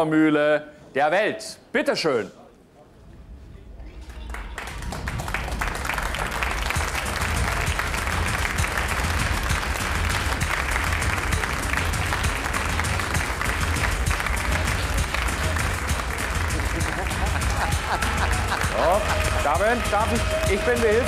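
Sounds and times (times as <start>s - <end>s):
audience applauding: 4.0s - 21.0s.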